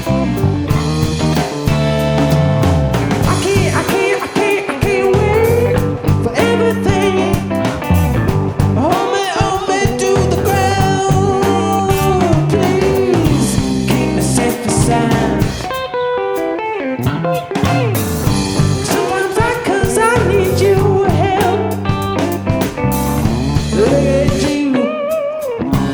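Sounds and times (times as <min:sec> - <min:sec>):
live rock band: 0:00.0 - 0:25.9.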